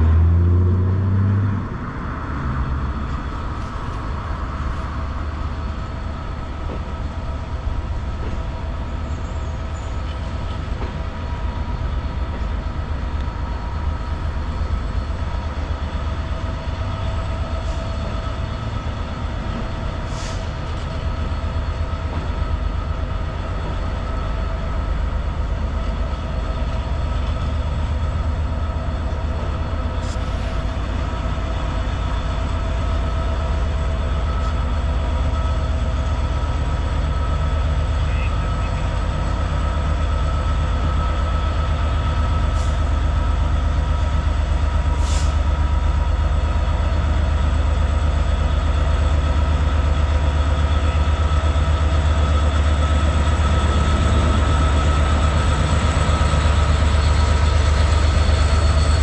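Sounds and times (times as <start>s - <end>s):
diesel locomotive engine humming: 0.0s - 59.0s.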